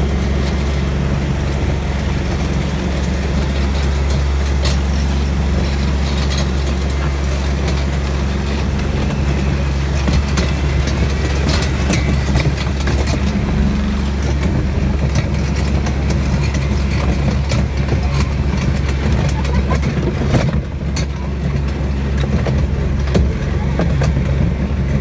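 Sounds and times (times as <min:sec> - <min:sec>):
tractor engine running: 0:00.0 - 0:25.0
clicks and rattles: 0:02.3 - 0:25.0.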